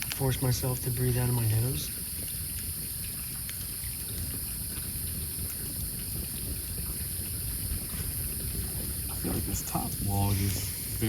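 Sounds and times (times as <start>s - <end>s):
campfire crackling: 0.0s - 11.0s
fire rumbling and hissing: 0.0s - 11.0s.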